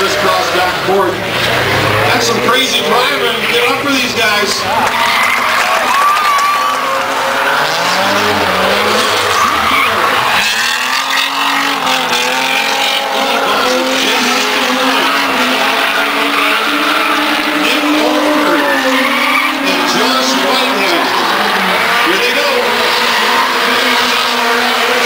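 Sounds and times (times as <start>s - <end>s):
car engine revving: 0.0s - 25.0s
tyres squealing on asphalt: 0.0s - 25.0s.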